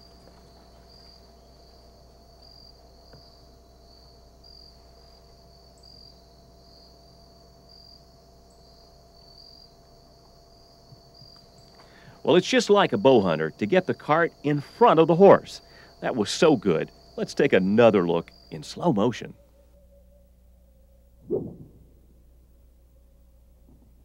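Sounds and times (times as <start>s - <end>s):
insect chorus trilling: 0.0s - 21.2s.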